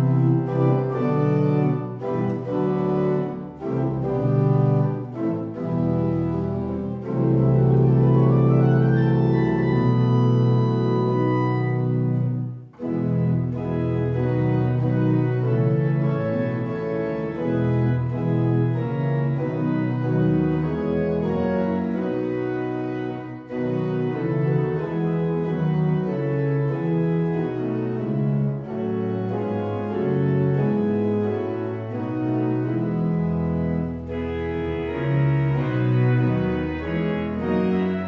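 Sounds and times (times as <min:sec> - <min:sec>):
organ playing slow chords: 0:00.0 - 0:38.0.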